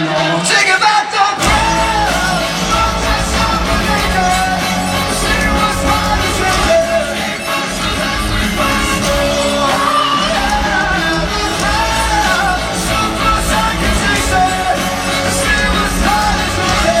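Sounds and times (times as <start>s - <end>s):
lead singer singing: 0.0s - 17.0s
live rock band playing: 1.4s - 17.0s.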